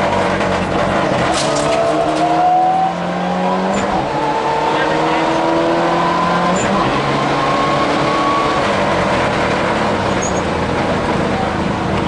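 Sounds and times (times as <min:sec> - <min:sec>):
rally car engine at speed: 0:00.0 - 0:12.0
road and tyre noise: 0:00.0 - 0:12.0.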